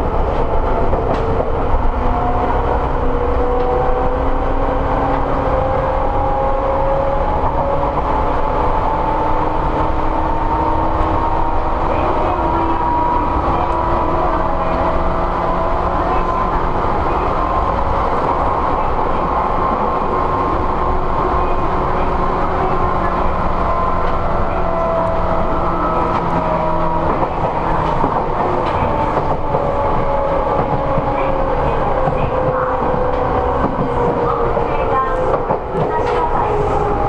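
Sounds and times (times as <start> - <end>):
wheels rumbling on rail: 0.0 - 37.0.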